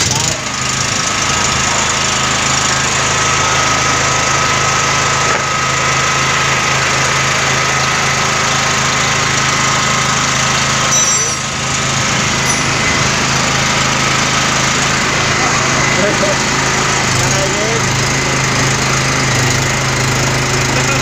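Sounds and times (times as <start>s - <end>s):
generator engine running: 0.0s - 21.0s.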